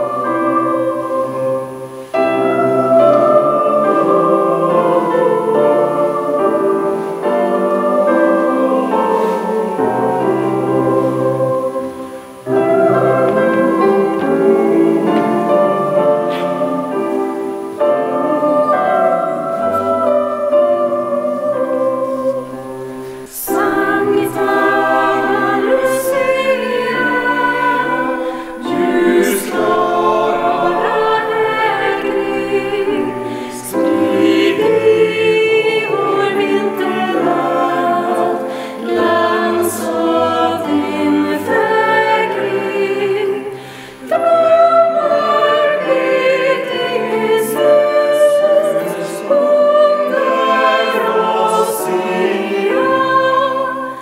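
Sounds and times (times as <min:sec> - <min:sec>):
choir singing slow song: 0:00.0 - 0:54.0.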